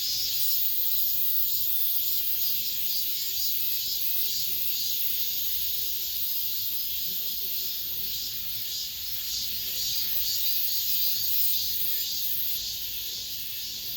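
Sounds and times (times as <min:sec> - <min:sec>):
cicadas buzzing in chorus: 0:00.0 - 0:13.9.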